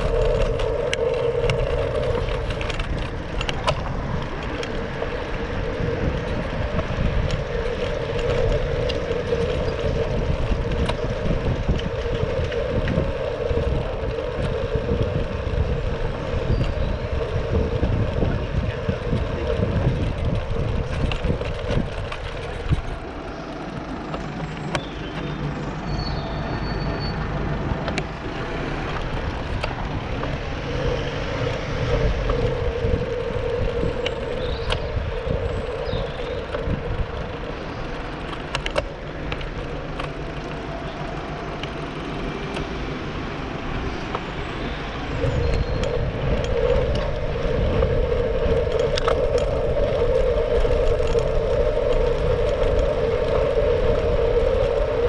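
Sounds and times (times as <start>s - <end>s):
bike tyres rumbling on tarmac: 0.0s - 55.0s
constant hum: 0.0s - 55.0s
wind on microphone: 0.0s - 55.0s.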